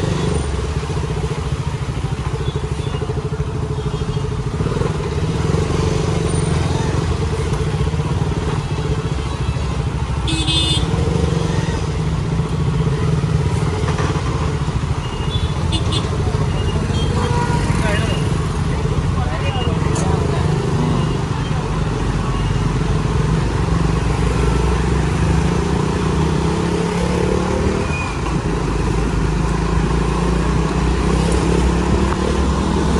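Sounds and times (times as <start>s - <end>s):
motorcycle engine riding: 0.0s - 32.9s.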